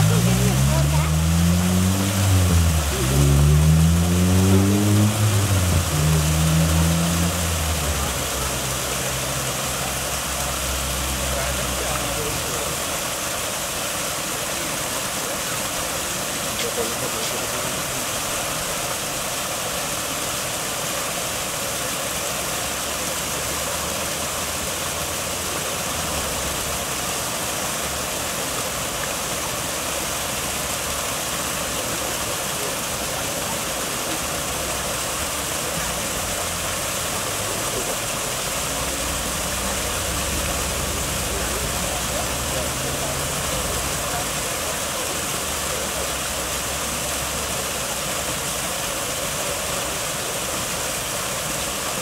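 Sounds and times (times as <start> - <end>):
water spilling over rocks: 0.0 - 52.0.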